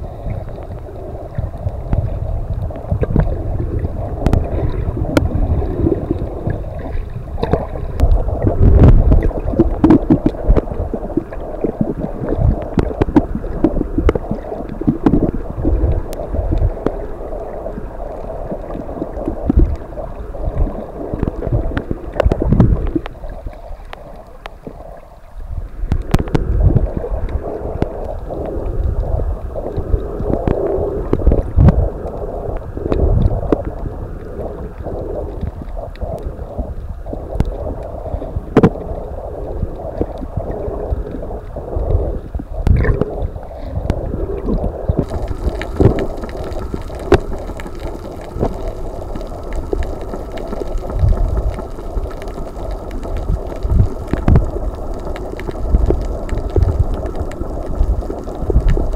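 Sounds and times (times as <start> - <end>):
underwater sloshing and gurgling: 0.0 - 58.9
sharp underwater clicks: 0.2 - 58.9.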